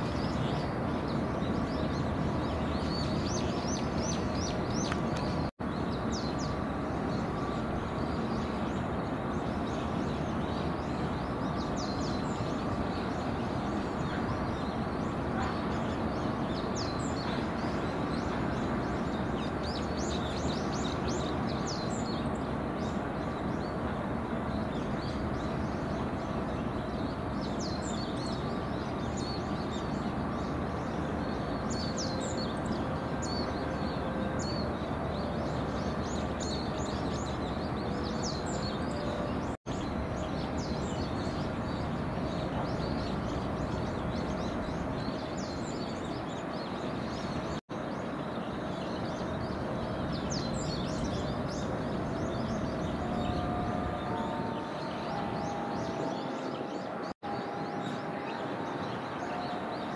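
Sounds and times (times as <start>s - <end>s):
small birds chirping: 0.0s - 59.9s
steady background noise: 0.0s - 59.9s.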